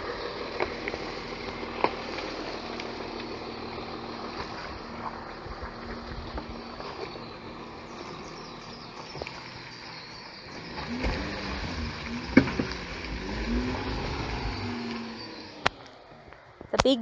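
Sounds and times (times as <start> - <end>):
car engine at low revs: 0.0 - 16.6.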